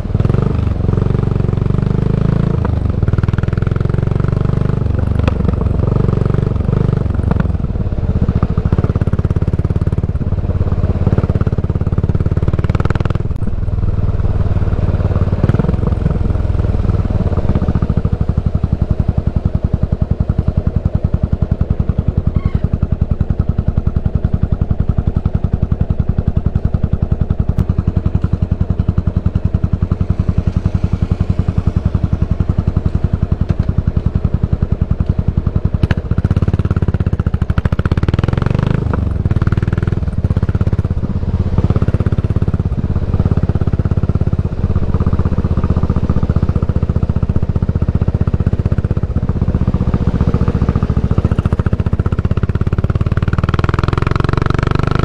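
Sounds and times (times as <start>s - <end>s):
motorcycle engine idling: 0.0s - 55.0s
motorcycle pulling away: 0.0s - 55.0s.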